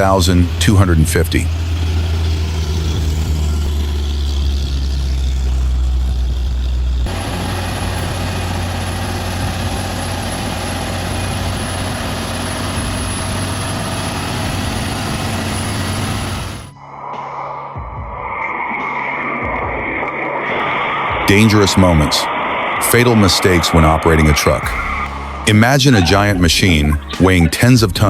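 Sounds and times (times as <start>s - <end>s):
heavy truck engines rumbling: 0.0s - 16.7s, 21.2s - 28.0s
thin high whine: 0.0s - 28.0s.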